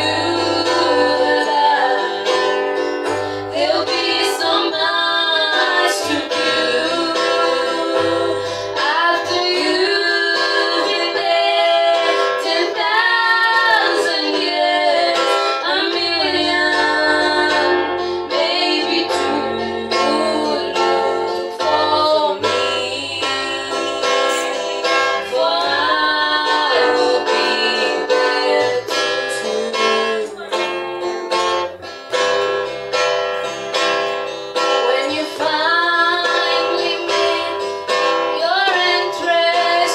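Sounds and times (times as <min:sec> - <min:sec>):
women singing gospel: 0:00.0 - 0:30.6, 0:34.7 - 0:39.9
guitar accompaniment: 0:00.0 - 0:39.9.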